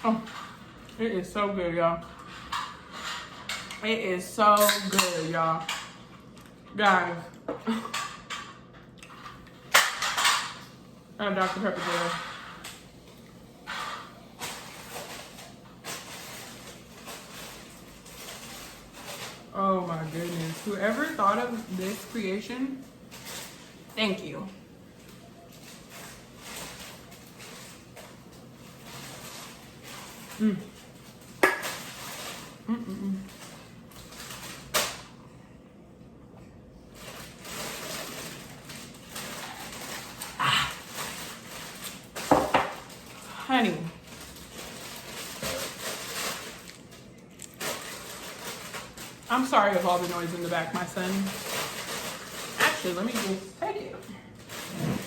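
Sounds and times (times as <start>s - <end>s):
handling and eating noise: 0.0s - 55.0s.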